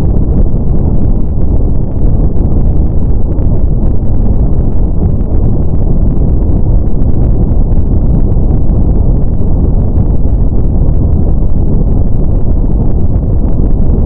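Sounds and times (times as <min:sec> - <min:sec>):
brown noise hiss: 0:00.0 - 0:14.0.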